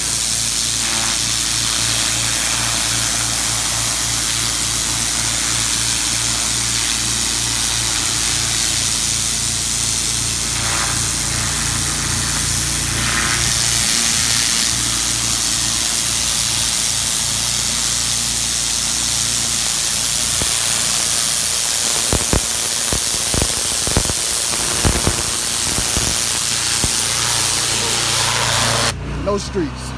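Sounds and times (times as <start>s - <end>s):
water jet hissing on concrete: 0.0s - 29.0s
pressure washer engine hum: 0.0s - 29.3s.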